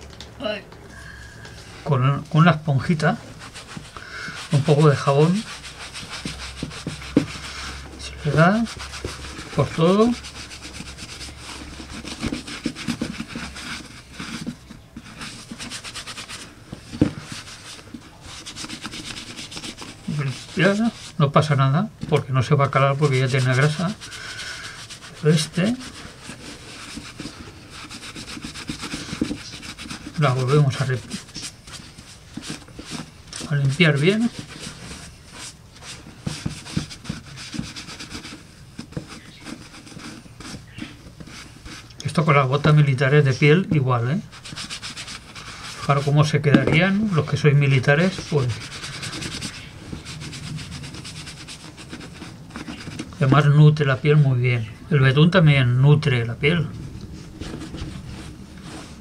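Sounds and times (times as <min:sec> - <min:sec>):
sponge scrubbing leather boot: 0:02.8 - 0:21.6, 0:22.6 - 0:53.7.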